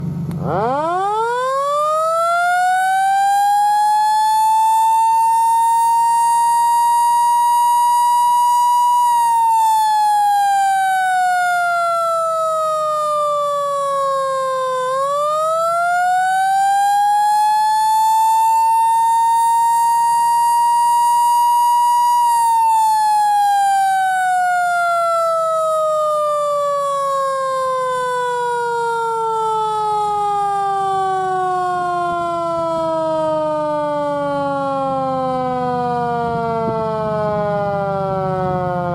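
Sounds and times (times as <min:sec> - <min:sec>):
mechanical siren wailing: 0:00.0 - 0:38.9.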